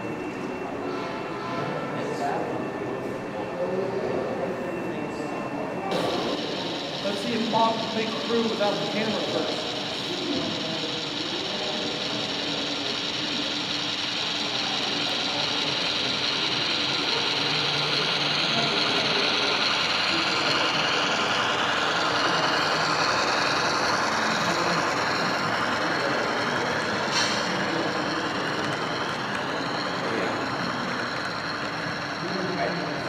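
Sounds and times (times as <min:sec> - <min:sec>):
model train whirring on track: 0:00.0 - 0:33.0.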